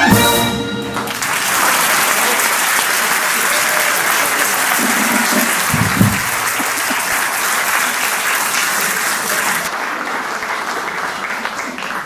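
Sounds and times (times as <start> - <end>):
audience applauding: 0.9 - 12.0.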